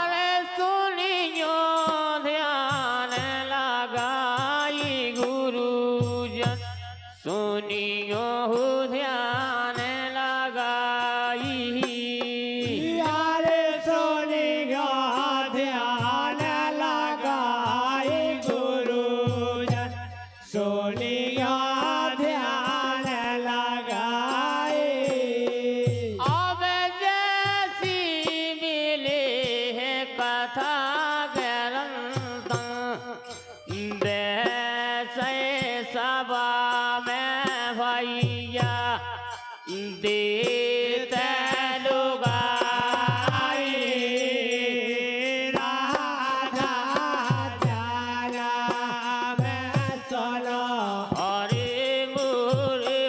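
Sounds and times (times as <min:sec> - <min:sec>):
man singing: 0:00.0 - 0:53.0.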